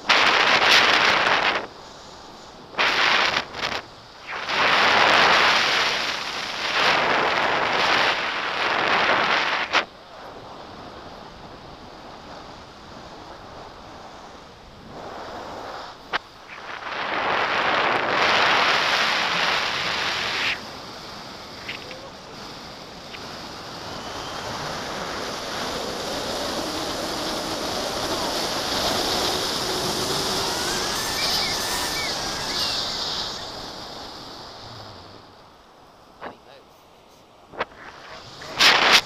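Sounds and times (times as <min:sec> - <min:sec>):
wind rushing over microphone: 0:00.0 - 0:36.6, 0:37.4 - 0:39.0.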